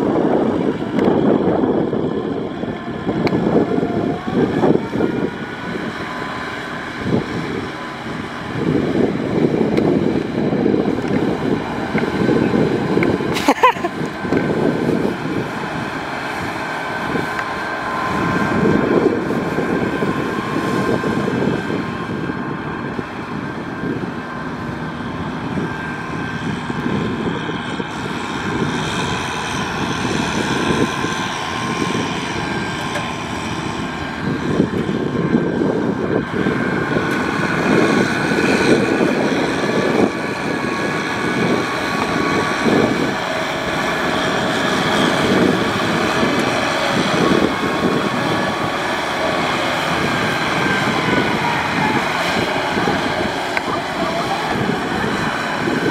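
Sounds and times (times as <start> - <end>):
combine harvester running: 0.0 - 55.9
tractor diesel engine: 0.0 - 55.9.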